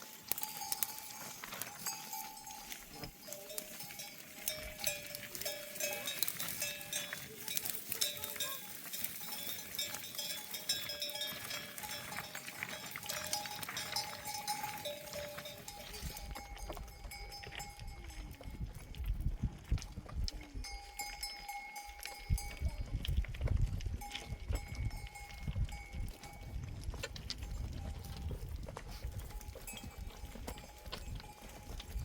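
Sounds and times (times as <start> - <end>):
sheep bells clanking and ringing: 0.0 - 32.0.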